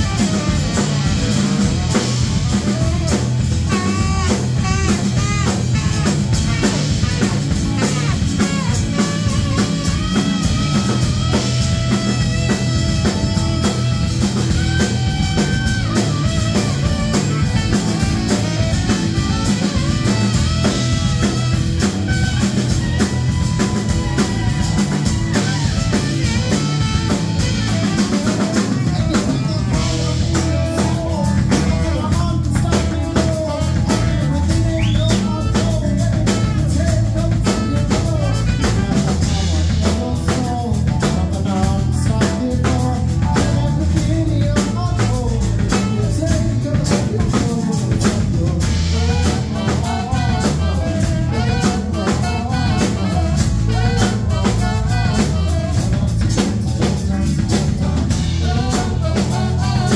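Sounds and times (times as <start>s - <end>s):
drum kit beat: 0.0s - 59.9s
electric bass: 0.0s - 59.9s
keyboard: 0.0s - 59.9s
saxophone melody: 0.0s - 59.9s.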